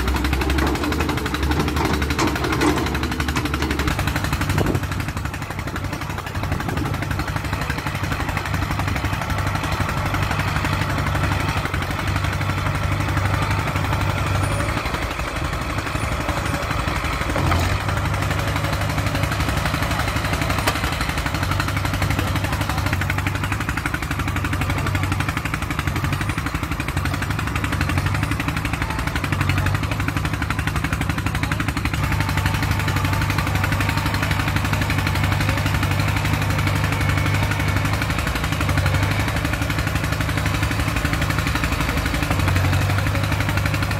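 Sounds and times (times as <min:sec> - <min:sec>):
bulldozer diesel engine knocking: 0:00.0 - 0:43.9.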